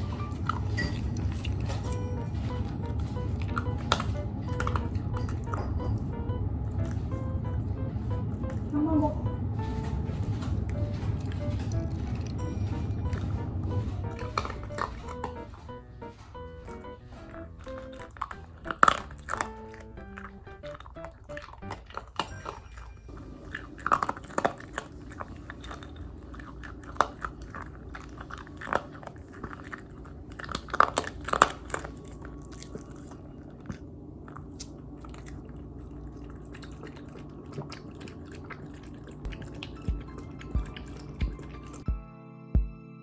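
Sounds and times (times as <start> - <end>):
dog crunching dry kibble: 0.0 - 6.2, 9.6 - 41.9.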